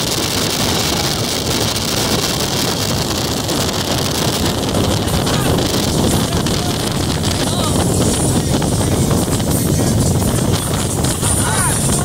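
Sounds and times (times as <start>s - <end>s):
motorboat running: 0.0s - 12.0s
wind buffeting microphone: 0.0s - 12.0s.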